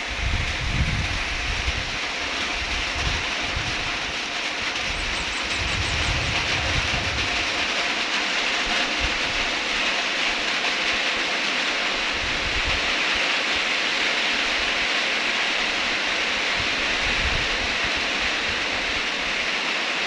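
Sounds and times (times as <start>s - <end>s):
low rumbling wind gusts: 0.0s - 10.2s, 11.9s - 14.9s, 15.6s - 19.6s
steady rain hiss: 0.0s - 20.0s.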